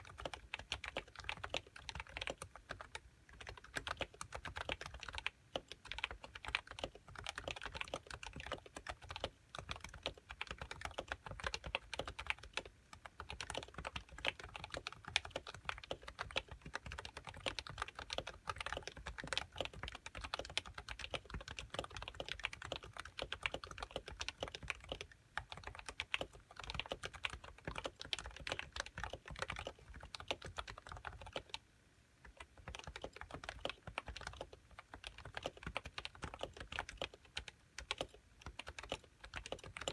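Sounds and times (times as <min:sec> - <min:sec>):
fast typing on keyboard: 0:00.0 - 0:31.6, 0:32.2 - 0:39.9.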